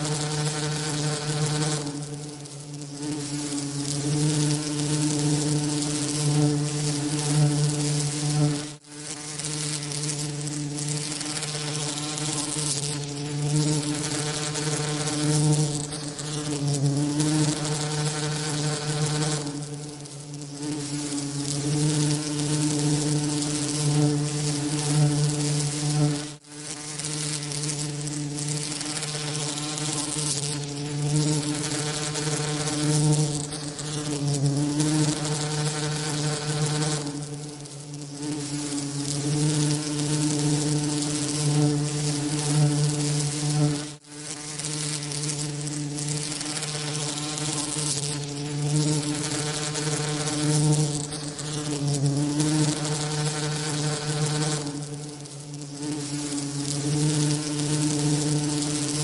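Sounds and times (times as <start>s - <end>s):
bees' wings buzzing: 0.0s - 59.0s.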